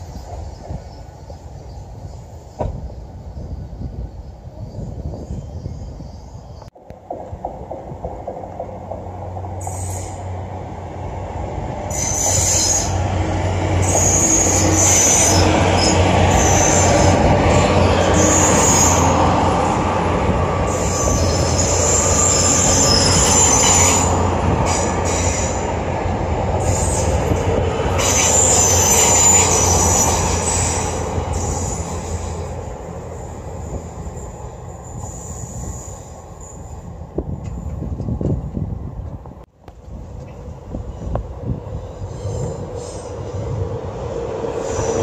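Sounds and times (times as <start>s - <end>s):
train diesel engines humming: 0.0s - 45.0s
train wheels rumbling on rail: 0.0s - 45.0s.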